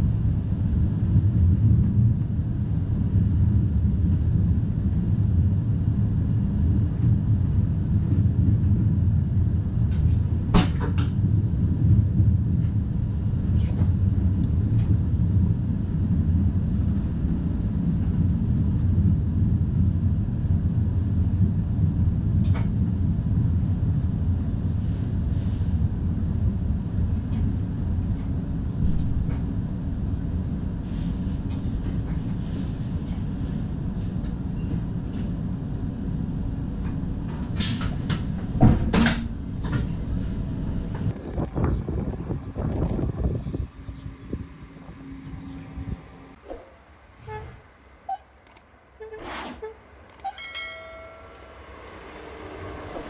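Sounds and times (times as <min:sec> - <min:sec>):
electric train rumble: 0:00.0 - 0:53.0.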